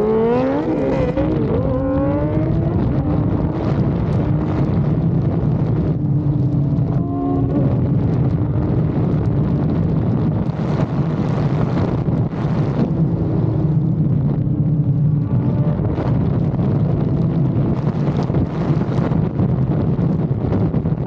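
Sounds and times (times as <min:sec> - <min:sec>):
motorcycle engine running: 0:00.0 - 0:21.0
wind on microphone: 0:00.0 - 0:21.0.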